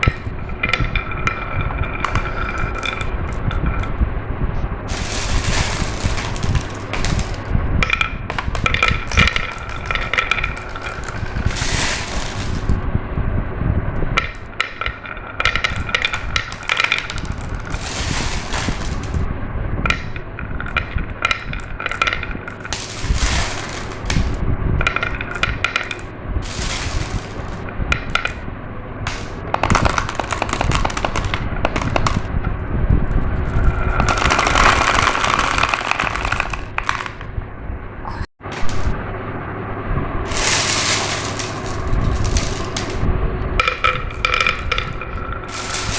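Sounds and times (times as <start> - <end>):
glass marbles rolling on track: 0.0 - 4.0, 4.9 - 12.9, 14.2 - 28.5, 29.1 - 32.4, 33.1 - 37.3, 40.3 - 45.9.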